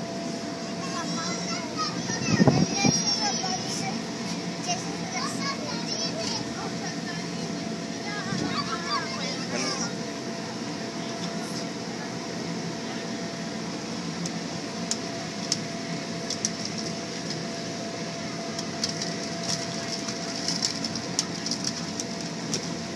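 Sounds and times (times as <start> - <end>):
blower fan humming: 0.0 - 22.9.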